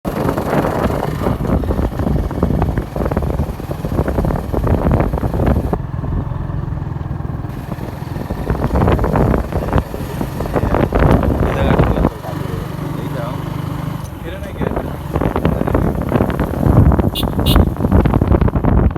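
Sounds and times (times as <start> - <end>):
motorcycle engine running: 0.1 - 18.9
wind buffeting: 0.1 - 18.9.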